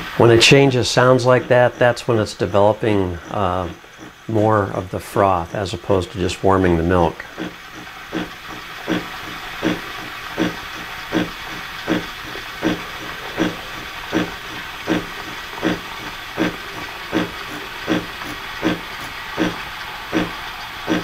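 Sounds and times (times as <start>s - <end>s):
steam wand frothing milk: 0.0s - 21.0s.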